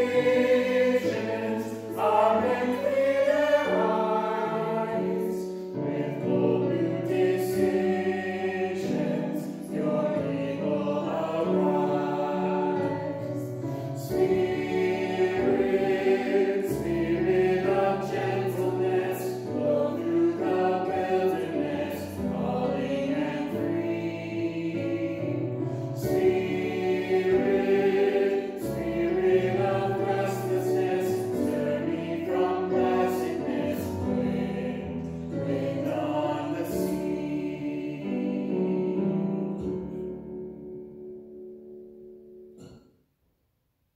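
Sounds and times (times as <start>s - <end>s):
group singing a hymn: 0.0s - 40.0s.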